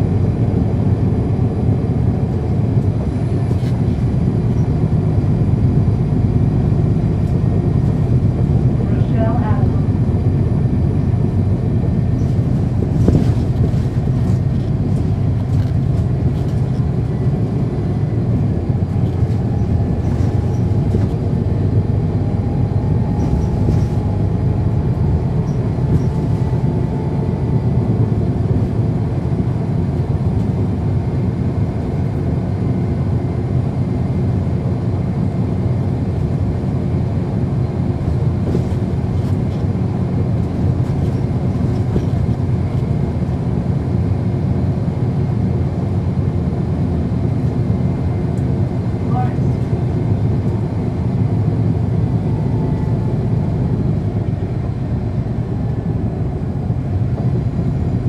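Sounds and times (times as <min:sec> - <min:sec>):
bus diesel engine running: 0:00.0 - 0:58.0
road rumble: 0:00.0 - 0:58.0.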